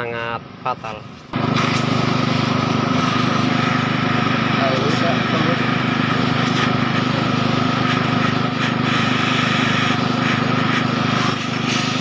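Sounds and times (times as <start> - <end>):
air compressor humming: 0.4 - 12.0.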